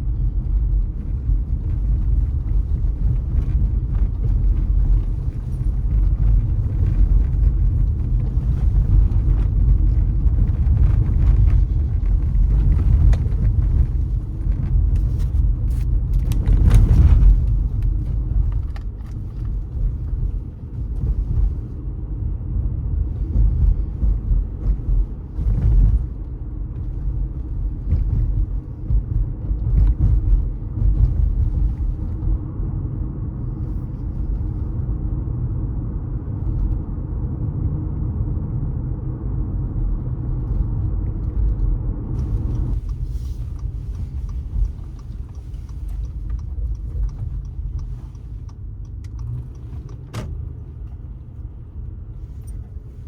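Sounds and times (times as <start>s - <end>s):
car engine rumble: 0.0s - 53.0s
road noise: 0.0s - 53.0s.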